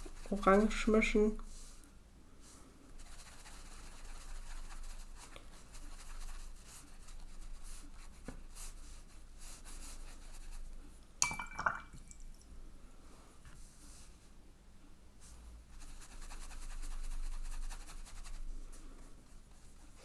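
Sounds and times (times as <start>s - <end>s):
paintbrush strokes on paper: 0.0s - 10.8s, 13.5s - 14.4s, 15.2s - 20.0s.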